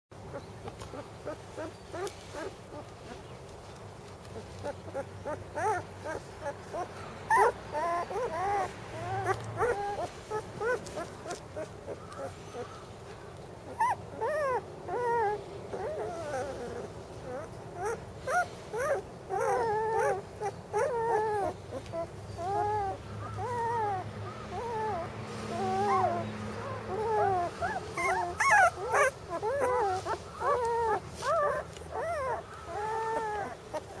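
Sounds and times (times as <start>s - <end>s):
puppies crying: 0.2s - 3.2s, 4.3s - 34.0s.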